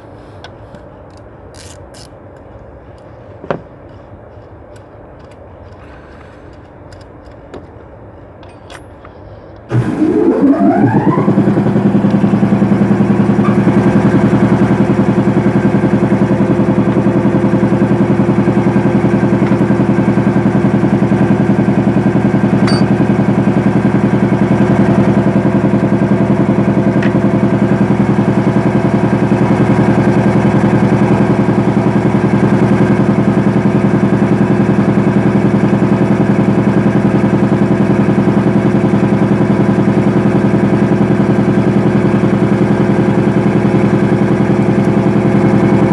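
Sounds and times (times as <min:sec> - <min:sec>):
air compressor humming: 0:09.0 - 0:45.9.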